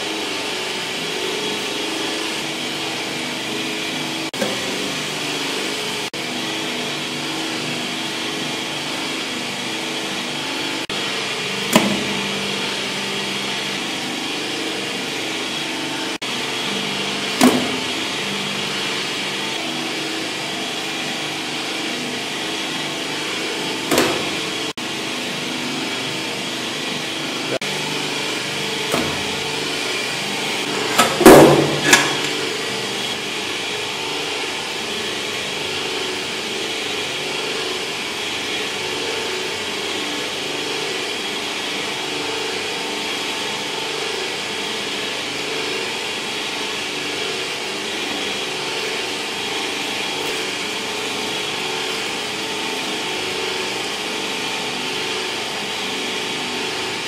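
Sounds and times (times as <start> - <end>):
electric meat grinder running: 0.0 - 57.0.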